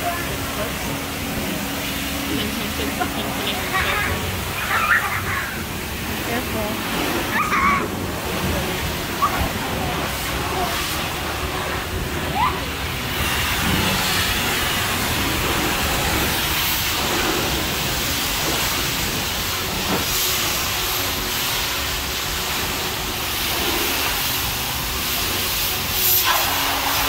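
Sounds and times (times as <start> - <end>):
high-pressure water spraying: 0.0 - 27.0.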